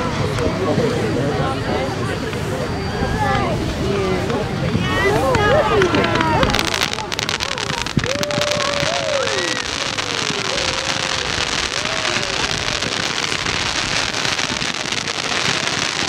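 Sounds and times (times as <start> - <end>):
firework fountains crackling: 0.0 - 16.0.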